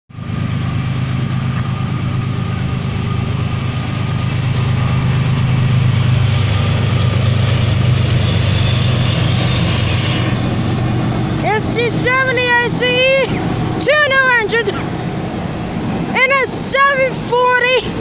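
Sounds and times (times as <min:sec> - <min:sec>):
diesel locomotive engine drone: 0:00.1 - 0:18.0.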